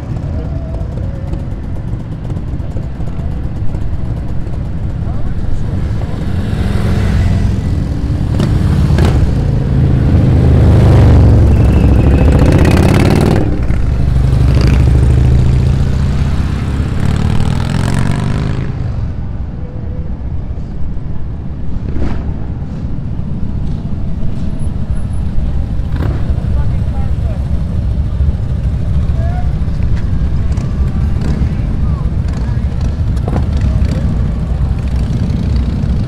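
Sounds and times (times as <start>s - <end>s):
motorcycle engines passing: 0.0s - 36.0s
street noise: 0.0s - 36.0s.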